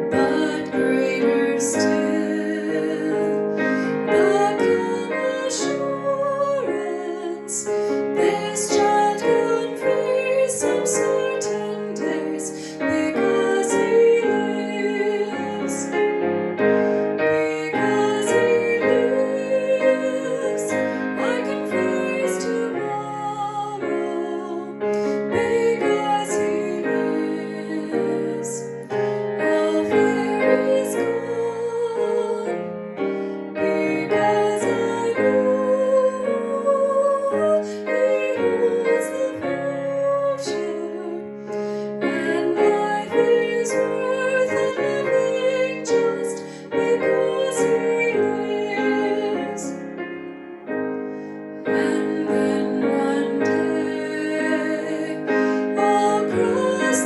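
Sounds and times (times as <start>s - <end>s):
slow hymn piano music: 0.0s - 57.0s.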